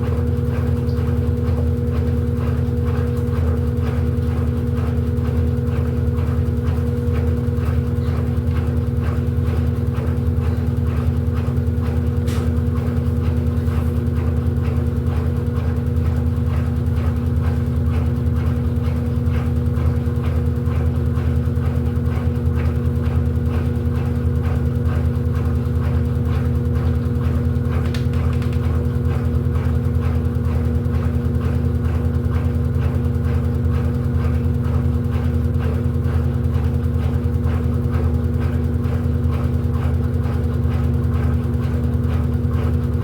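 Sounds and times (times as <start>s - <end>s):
washing machine motor humming: 0.0s - 43.0s.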